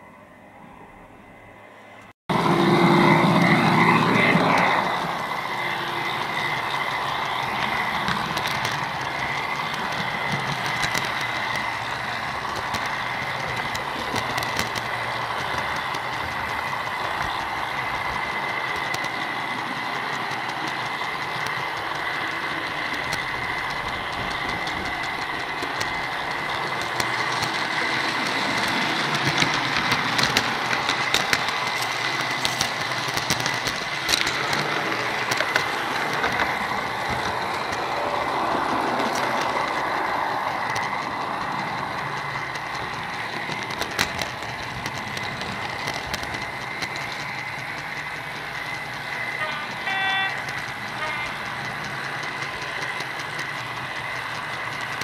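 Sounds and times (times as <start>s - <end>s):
model train wheels rolling on track: 0.0s - 55.0s
steady high whine: 0.0s - 55.0s.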